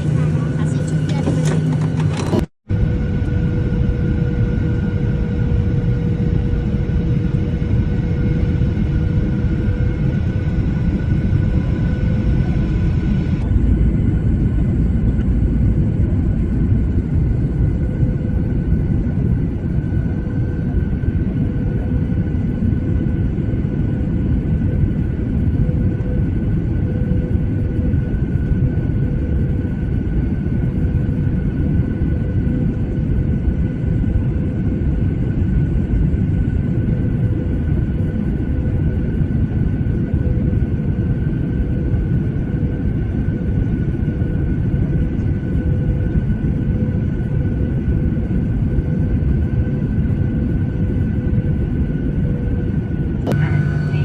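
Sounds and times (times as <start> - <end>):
constant whine: 0.0 - 54.0
jet cabin engine rumble: 0.0 - 54.0.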